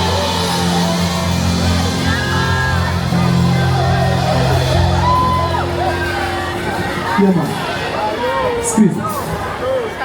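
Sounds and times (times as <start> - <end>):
deep bass line: 0.0 - 8.0
live band music over pa: 0.0 - 10.0.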